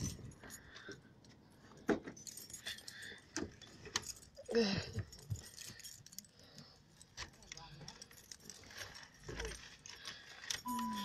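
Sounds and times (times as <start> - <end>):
keys jingling: 0.0 - 11.0.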